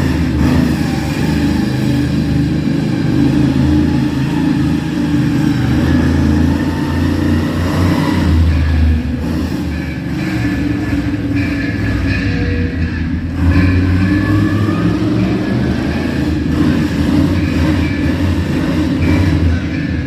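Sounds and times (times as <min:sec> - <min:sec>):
monster truck engine rumbling: 0:00.0 - 0:20.0.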